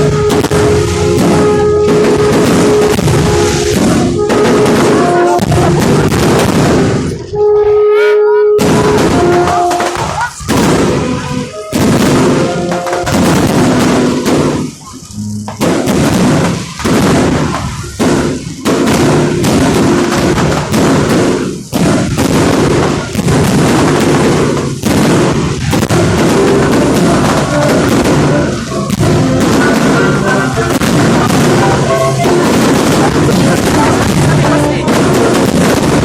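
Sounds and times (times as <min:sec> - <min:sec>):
loud music: 0:00.0 - 0:24.3, 0:24.9 - 0:36.0
fireworks banging: 0:00.0 - 0:36.0.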